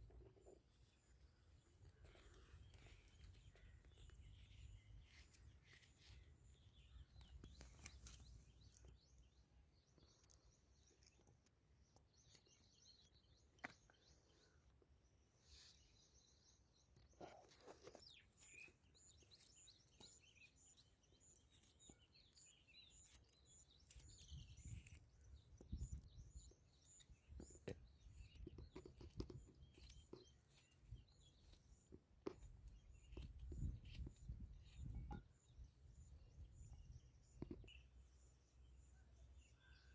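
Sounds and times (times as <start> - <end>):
faint birds chirping: 0.0 - 39.9.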